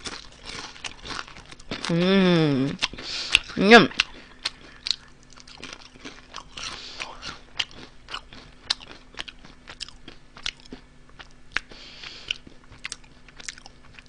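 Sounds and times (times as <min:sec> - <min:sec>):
person chewing crisp chips: 0:00.0 - 0:14.0.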